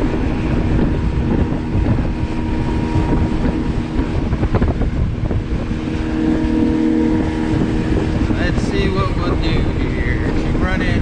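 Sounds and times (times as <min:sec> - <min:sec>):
motorboat engine hum: 0:00.0 - 0:11.0
water rushing past hull: 0:00.0 - 0:11.0
wind buffeting microphone: 0:00.0 - 0:11.0.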